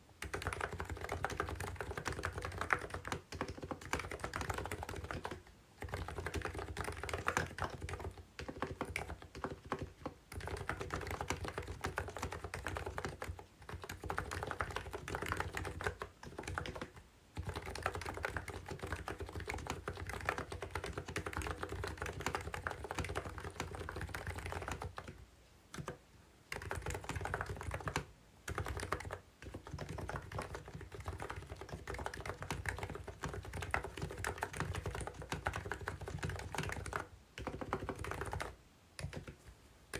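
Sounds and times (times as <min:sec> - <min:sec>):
fast keyboard typing: 0:00.2 - 0:39.5.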